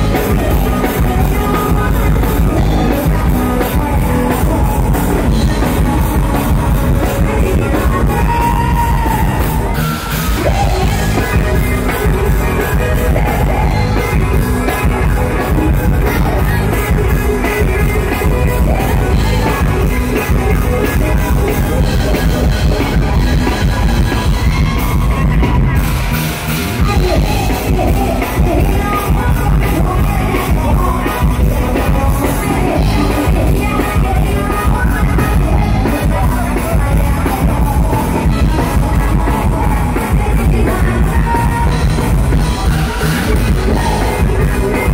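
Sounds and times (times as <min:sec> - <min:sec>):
heavy bass beat: 0:00.0 - 0:44.9
live band music with singing: 0:00.0 - 0:44.9.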